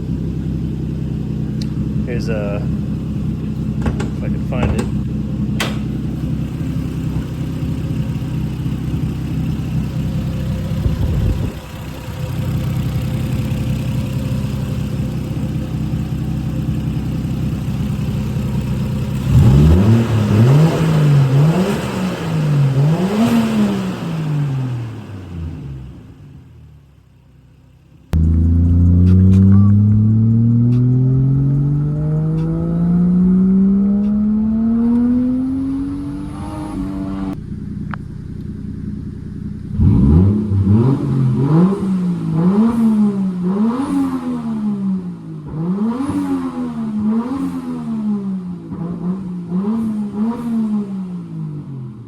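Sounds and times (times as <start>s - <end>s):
car engine revving: 0.0s - 26.6s, 27.6s - 51.7s
car engine accelerating: 0.0s - 51.7s.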